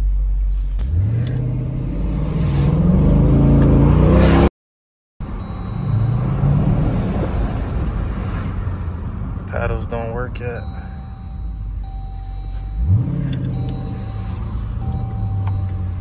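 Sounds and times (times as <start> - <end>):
car engine accelerating: 0.0 - 4.5, 5.2 - 9.6, 10.6 - 16.0.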